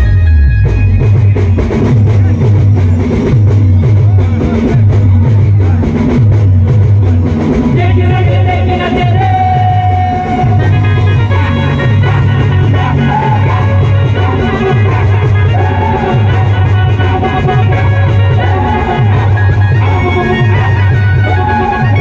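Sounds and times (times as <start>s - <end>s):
heavy drum beat: 0.0s - 22.0s
live band music over loudspeakers: 0.0s - 22.0s
people singing into microphones: 1.6s - 22.0s.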